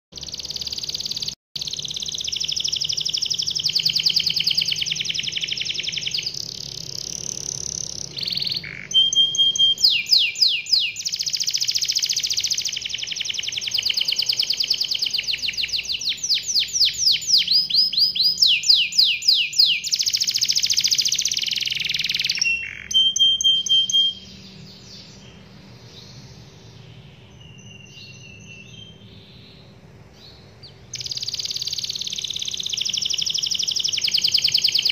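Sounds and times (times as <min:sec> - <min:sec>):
canary singing trills: 0:00.1 - 0:34.9
faint bird chirps: 0:00.2 - 0:34.9.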